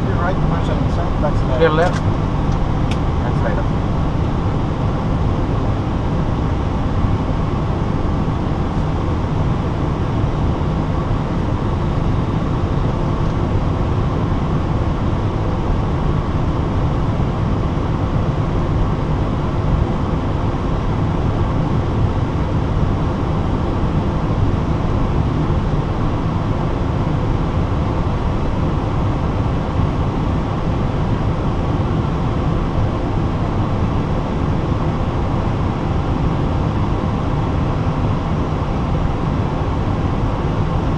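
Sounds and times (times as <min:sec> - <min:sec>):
airliner engines idling rumble: 0:00.0 - 0:40.9.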